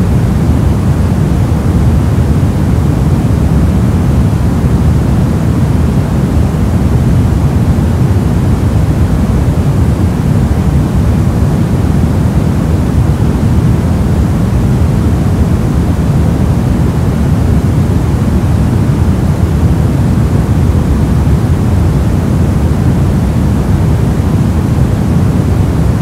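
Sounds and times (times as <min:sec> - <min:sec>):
deep steady hiss: 0:00.0 - 0:26.0.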